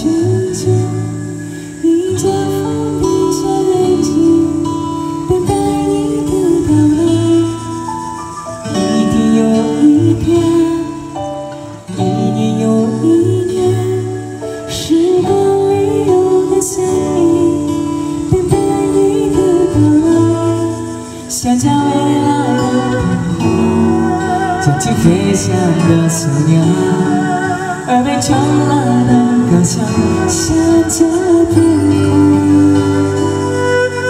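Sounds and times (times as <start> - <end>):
erhu fiddle melody: 0.0 - 34.0
instrumental accompaniment: 0.0 - 34.0
person singing: 0.0 - 34.0.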